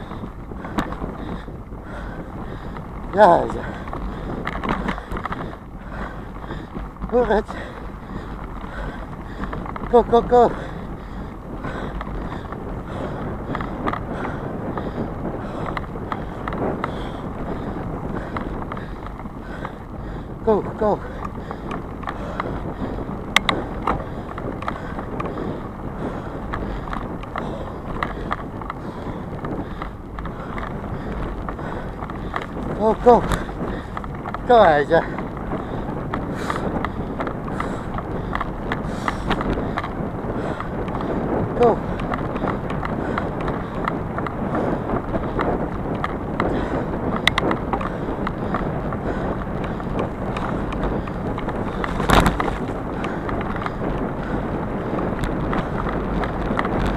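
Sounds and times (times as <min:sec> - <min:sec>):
bicycle tyre rumble: 0:00.0 - 0:56.9
bike rattles and clicks: 0:00.0 - 0:56.9
wind on microphone: 0:00.0 - 0:56.9.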